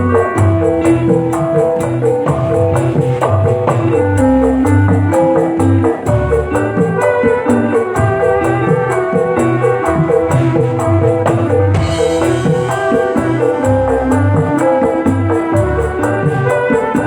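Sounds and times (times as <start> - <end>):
music with bass and beat: 0.0 - 17.0.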